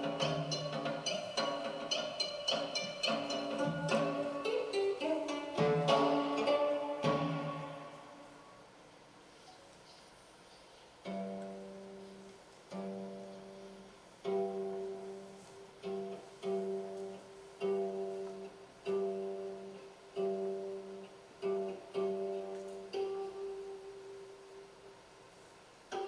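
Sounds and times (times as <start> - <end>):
plucked zither notes: 0.0 - 8.6, 11.0 - 24.9.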